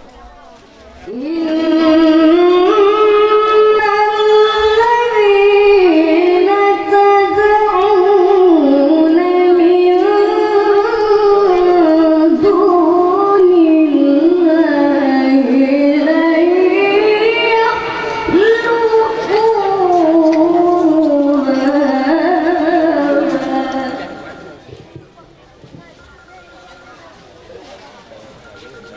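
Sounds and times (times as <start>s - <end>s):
boy reciting melodically into microphone: 1.0s - 24.8s.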